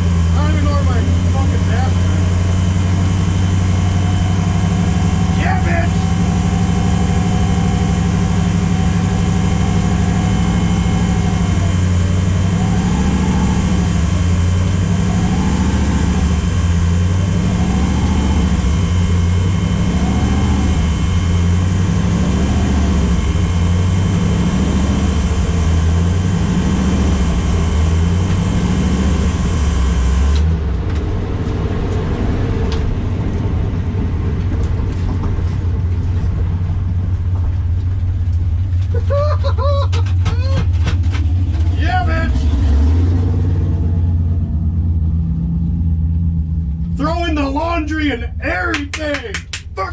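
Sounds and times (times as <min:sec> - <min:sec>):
car engine idling: 0:00.0 - 0:31.6, 0:32.8 - 0:49.9
wavering engine whine: 0:00.0 - 0:49.8.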